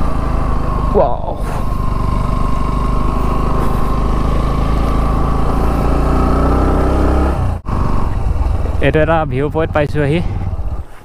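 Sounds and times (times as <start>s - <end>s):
motorcycle engine revving up: 0.0s - 11.0s.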